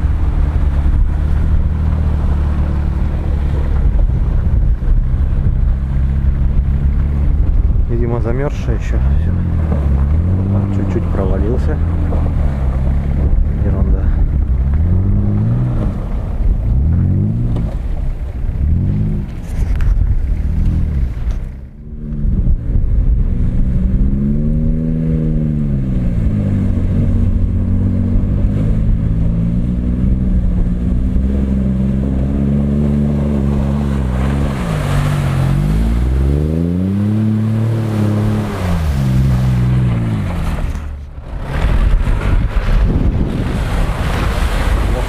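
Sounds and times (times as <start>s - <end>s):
suv engine revving: 0.0s - 45.0s.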